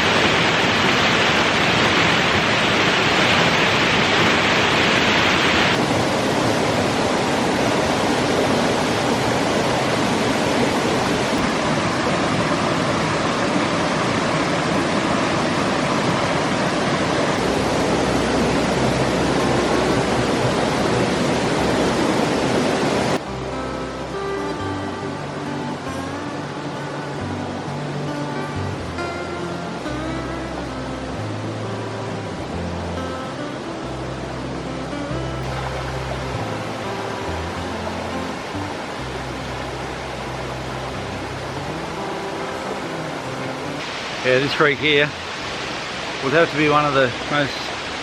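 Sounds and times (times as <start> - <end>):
creek water rushing over rocks: 0.0 - 48.0.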